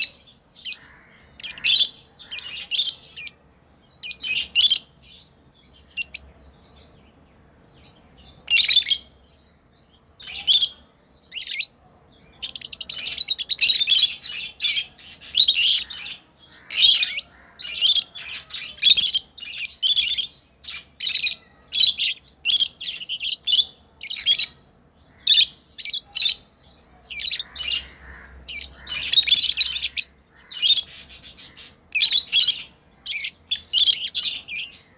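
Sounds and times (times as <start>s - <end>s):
lovebirds chirping: 0.0s - 34.9s.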